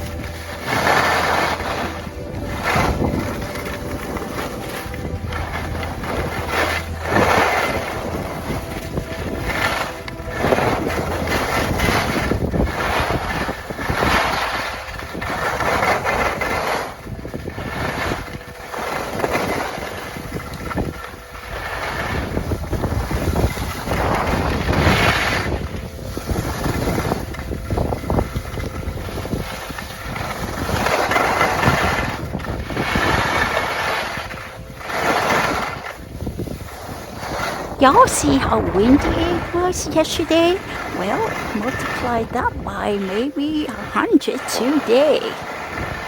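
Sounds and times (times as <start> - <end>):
strong wind gusts on microphone: 0.0 - 46.0.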